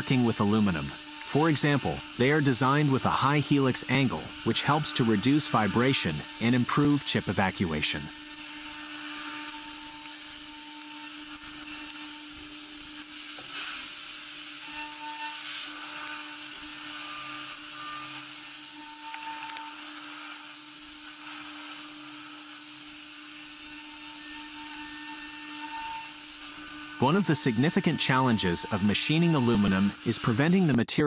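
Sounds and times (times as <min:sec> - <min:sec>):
cutter whine: 0:00.0 - 0:30.9
milling spindle hum and hiss: 0:00.0 - 0:30.9.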